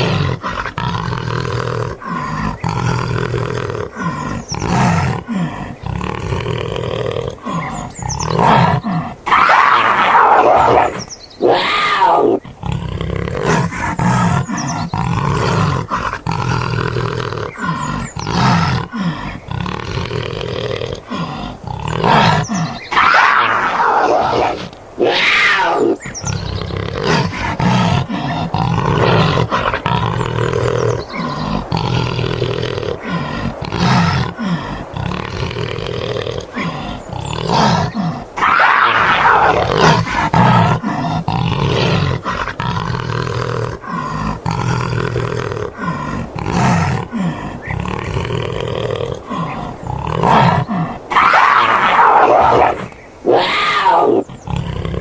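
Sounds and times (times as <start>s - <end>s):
big cat roaring and growling: 0.0s - 55.0s.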